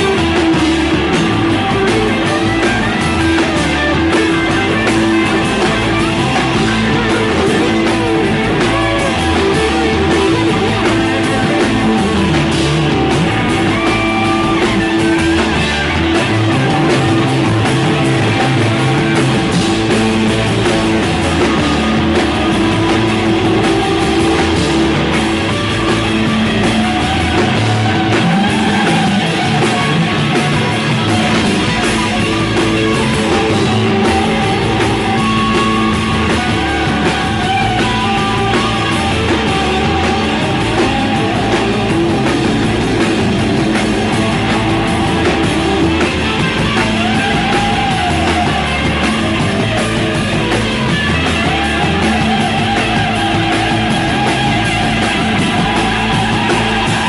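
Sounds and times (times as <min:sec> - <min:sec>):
rock band instrumental: 0:00.0 - 0:57.0.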